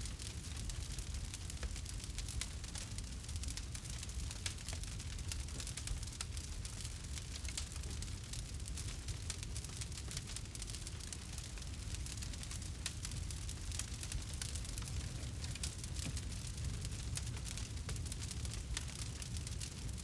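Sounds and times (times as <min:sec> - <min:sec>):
campfire crackling and popping: 0:00.1 - 0:20.0.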